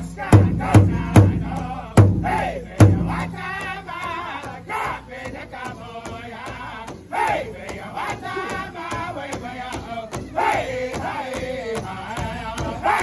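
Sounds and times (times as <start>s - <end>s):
high-pitched group singing: 0.0s - 13.0s
large hide drum beats: 0.0s - 13.0s.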